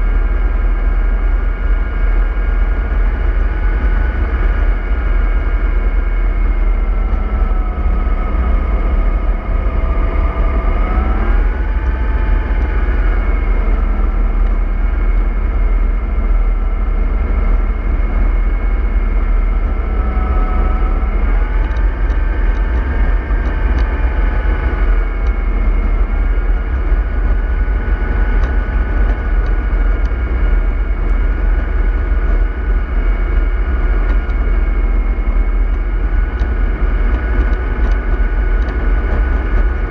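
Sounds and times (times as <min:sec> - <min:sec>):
bus engine low rumble: 0:00.0 - 0:39.9
whining driveline tone: 0:00.0 - 0:39.9.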